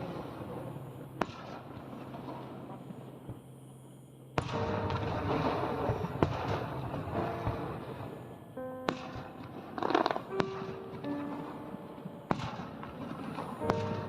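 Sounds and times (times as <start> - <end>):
firework burst crackling: 0.0 - 3.3, 4.4 - 14.0
firework bangs: 0.0 - 3.4, 4.4 - 14.0.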